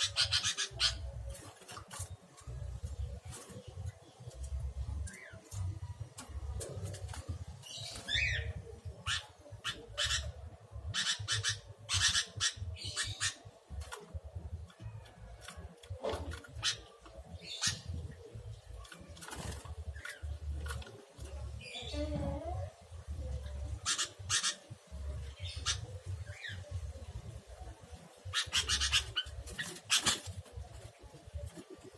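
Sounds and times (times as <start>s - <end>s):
wings fluttering and rustling: 0.0s - 10.2s, 10.9s - 22.0s, 23.2s - 31.9s
birds chirping: 0.0s - 31.9s.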